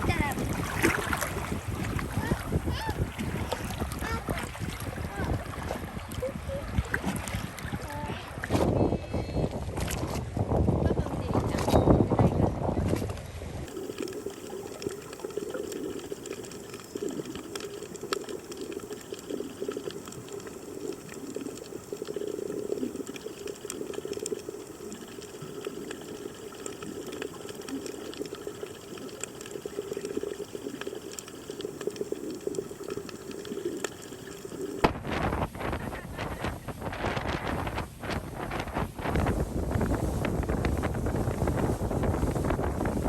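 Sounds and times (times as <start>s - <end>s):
water churning: 0.0s - 8.8s, 13.6s - 43.0s.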